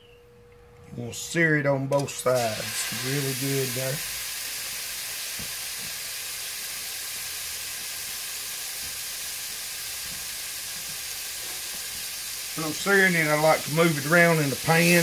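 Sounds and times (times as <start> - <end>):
steak sizzling in a pan: 2.3 - 15.0.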